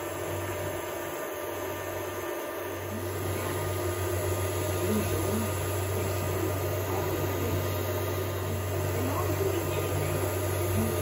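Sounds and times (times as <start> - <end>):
cooling fans whirring: 0.0 - 11.0.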